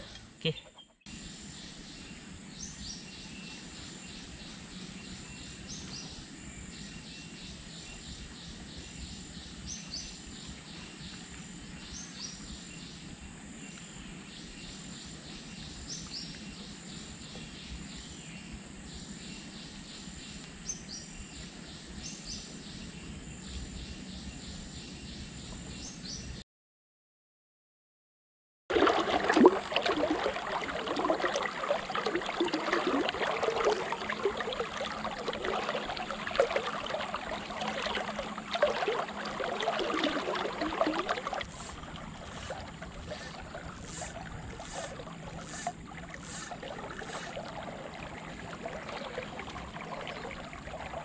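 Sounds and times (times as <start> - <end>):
insects chirping: 0.0 - 26.2, 28.8 - 51.0.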